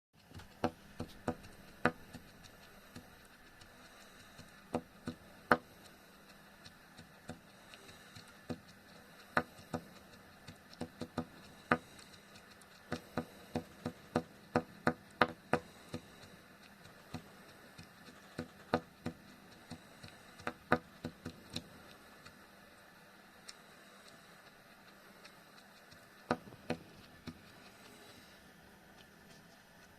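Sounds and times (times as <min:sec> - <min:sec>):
faint steady hum: 0:00.2 - 0:29.9.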